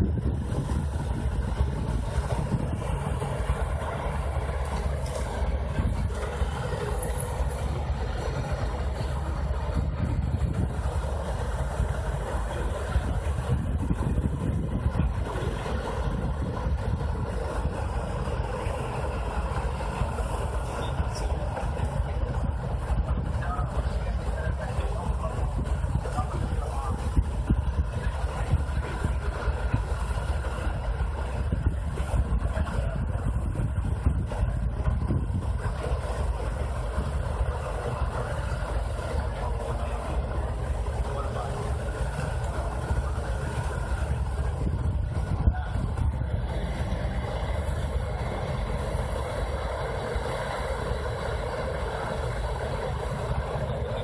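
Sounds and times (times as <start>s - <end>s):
diesel engine low rumble: 0.0s - 54.0s
wind buffeting microphone: 0.0s - 54.0s.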